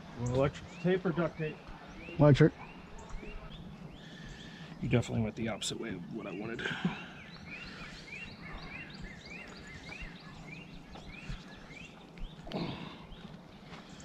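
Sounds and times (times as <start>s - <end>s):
small bird chirping: 0.2s - 14.0s.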